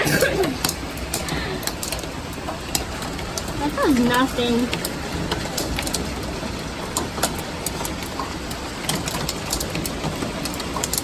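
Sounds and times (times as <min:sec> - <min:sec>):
hail and rain roaring: 0:00.0 - 0:11.0
sharp clicks of hailstones: 0:00.0 - 0:11.0.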